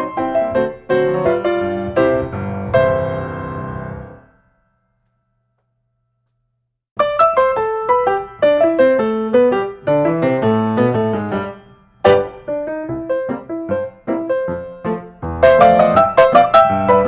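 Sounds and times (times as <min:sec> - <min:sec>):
piano music: 0:00.0 - 0:04.5, 0:07.0 - 0:17.0.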